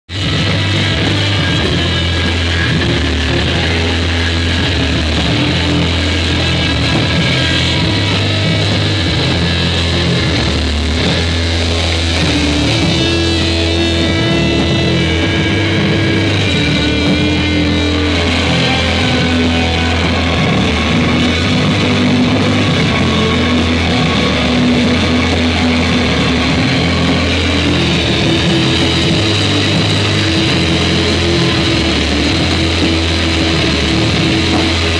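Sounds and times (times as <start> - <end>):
drum kit: 0.1 - 34.9
electric guitar: 0.1 - 34.9
rock band playing loud: 0.1 - 34.9.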